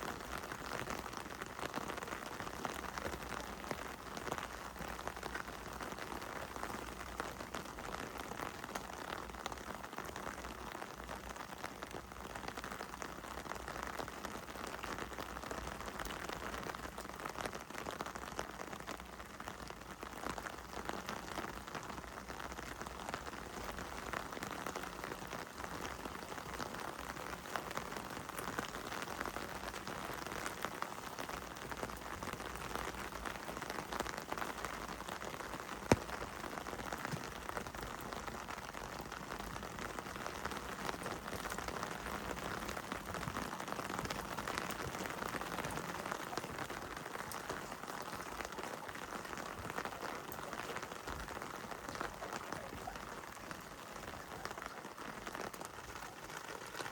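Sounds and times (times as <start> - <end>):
heavy rain on hard surfaces: 0.0 - 56.9.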